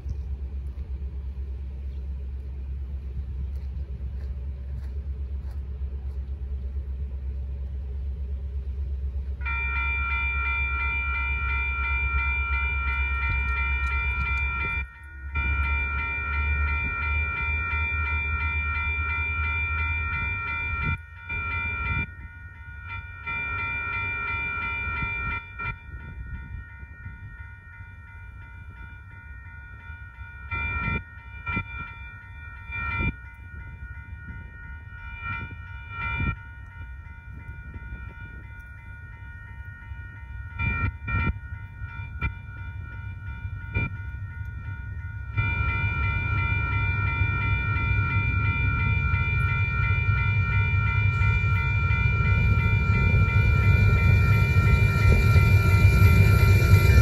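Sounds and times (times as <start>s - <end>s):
low rumble: 0.0s - 57.0s
railroad crossing bell ringing: 1.2s - 57.0s.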